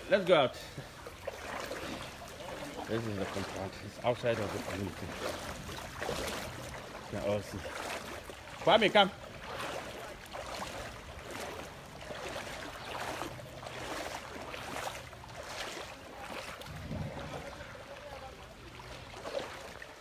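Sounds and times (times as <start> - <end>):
floodwater sloshing and splashing: 0.0 - 20.0.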